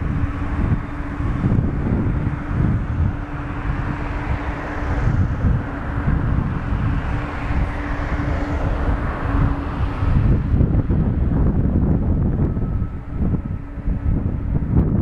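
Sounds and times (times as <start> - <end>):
jet engines idling: 0.0 - 15.0
wind buffeting microphone: 0.0 - 15.0.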